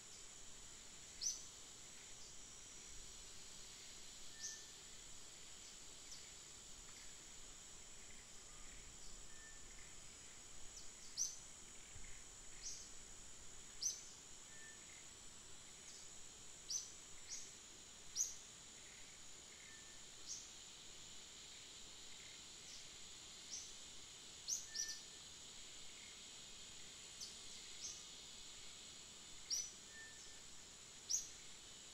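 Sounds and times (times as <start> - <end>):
high-pitched insect drone: 0.1 - 31.9.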